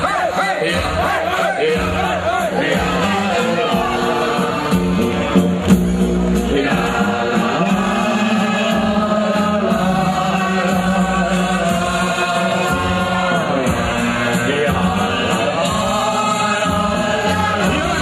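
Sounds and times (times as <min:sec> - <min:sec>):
crowd singing a chant: 0:00.0 - 0:18.0.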